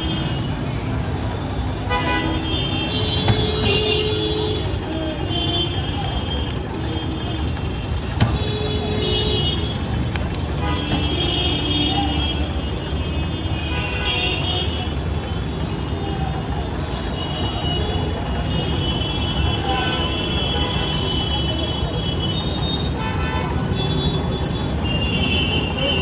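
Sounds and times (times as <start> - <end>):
vehicle horns honking: 0.0 - 0.7, 1.8 - 15.5, 16.9 - 26.0
rumble of engines: 0.0 - 26.0.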